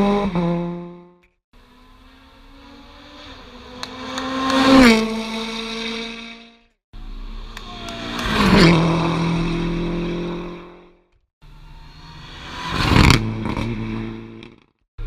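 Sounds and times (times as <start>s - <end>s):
rally car engines passing: 0.0s - 14.6s.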